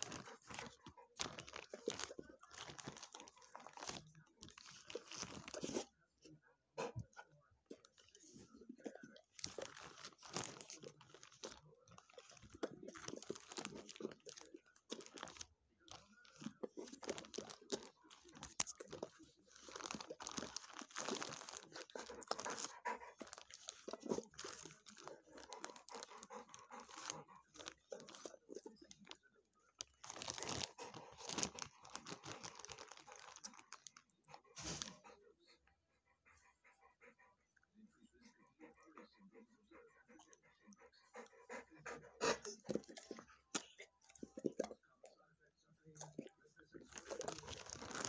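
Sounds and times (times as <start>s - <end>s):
dog crunching hard snacks: 0.0s - 5.9s, 7.7s - 35.1s, 41.2s - 44.8s, 45.9s - 48.0s.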